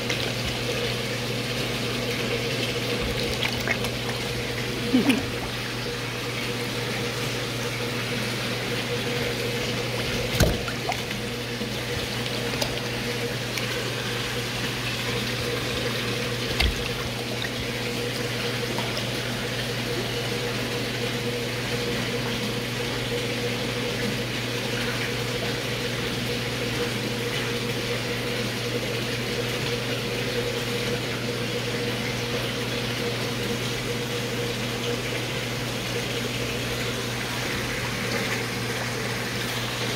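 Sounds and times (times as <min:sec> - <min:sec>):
pump hum: 0:00.0 - 0:39.9
water running into a pond: 0:00.0 - 0:39.9.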